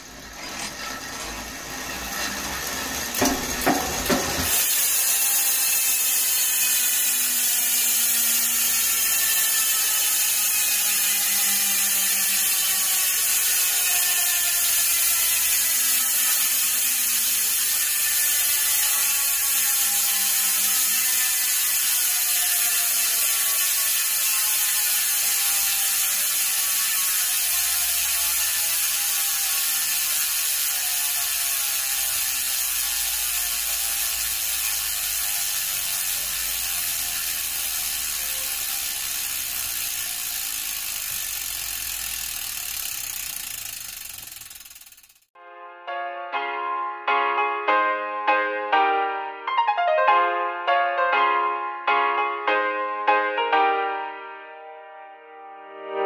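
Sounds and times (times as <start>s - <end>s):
bicycle hub freewheel clicking: 0.0s - 45.4s.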